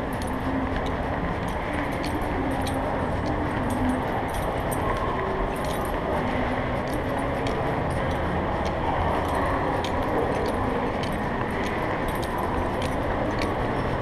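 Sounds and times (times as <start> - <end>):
background hubbub: 0.0 - 14.0
metal chain leash jingling: 0.0 - 14.0.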